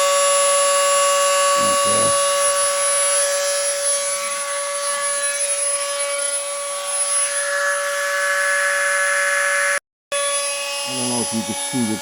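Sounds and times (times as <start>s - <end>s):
rotary tool high whine: 0.0s - 12.0s.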